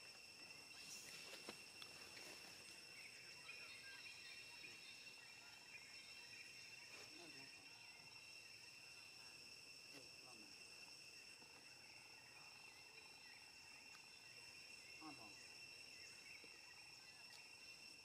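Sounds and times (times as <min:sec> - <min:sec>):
faint high insect drone: 0:00.0 - 0:18.0.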